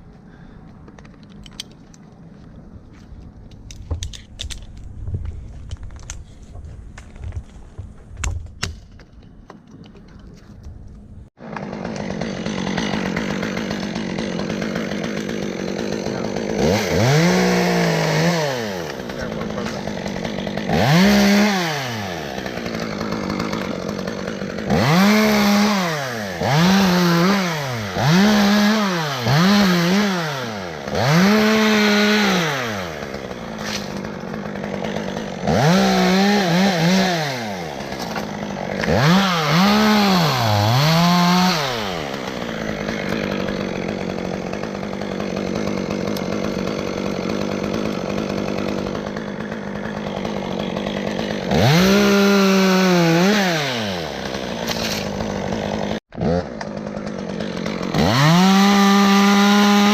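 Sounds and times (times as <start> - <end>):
chainsaw revving in bursts: 11.4 - 59.9.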